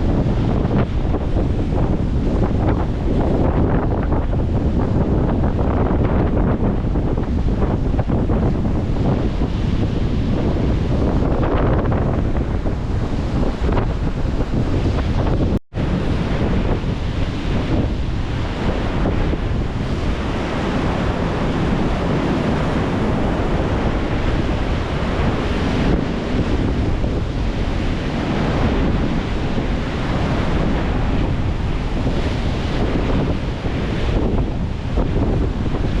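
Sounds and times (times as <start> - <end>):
sea waves breaking: 0.0 - 36.0
wind buffeting microphone: 0.0 - 36.0.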